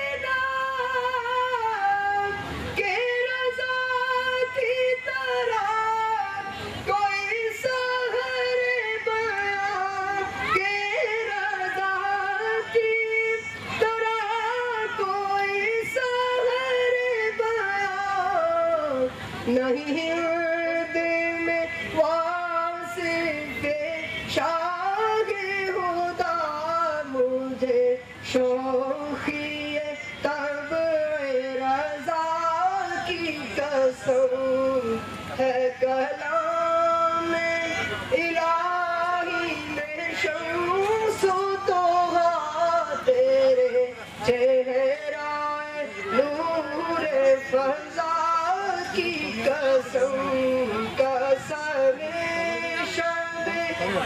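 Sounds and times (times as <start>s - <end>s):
man singing unaccompanied: 0.0s - 54.0s.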